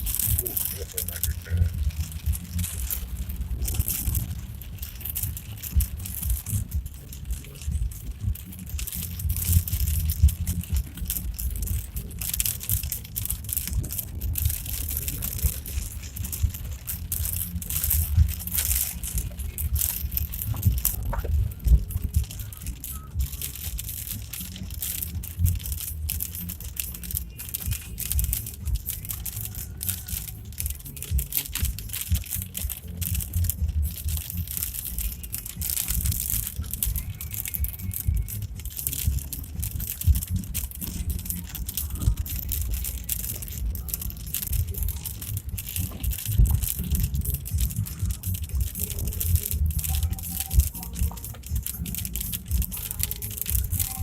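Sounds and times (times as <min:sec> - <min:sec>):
rattling and knocking: 0:00.0 - 0:54.0
vehicle rumble on rough road: 0:00.0 - 0:54.0.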